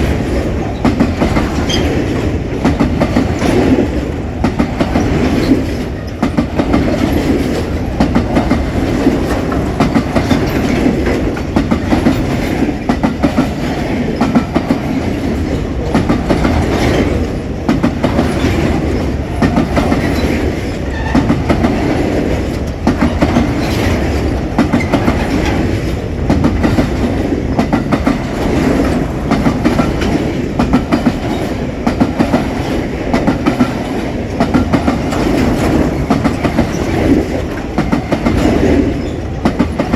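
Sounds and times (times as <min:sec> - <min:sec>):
freight train wheels clacking: 0:00.0 - 0:39.9.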